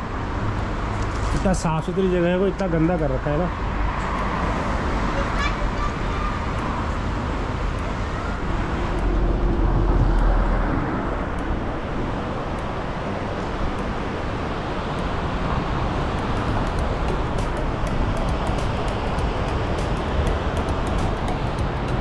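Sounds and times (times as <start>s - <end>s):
traffic noise: 0.0s - 22.0s
vehicle passing: 0.0s - 22.0s.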